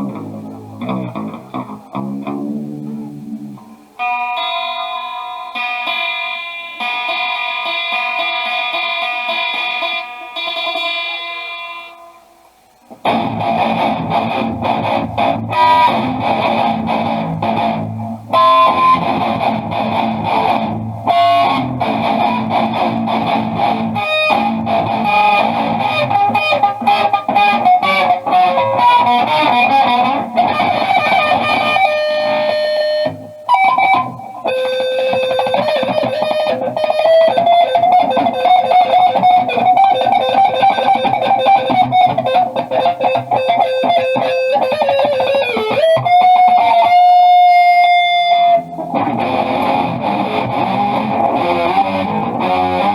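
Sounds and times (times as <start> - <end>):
electric guitar melody: 0.0 - 52.9.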